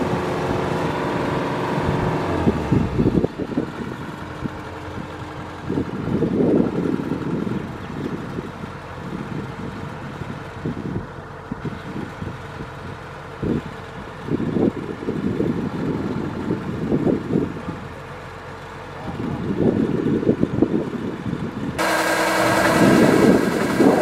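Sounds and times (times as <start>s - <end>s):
wind buffeting microphone: 0.0s - 17.9s, 19.1s - 24.0s
diesel engine running: 0.0s - 24.0s.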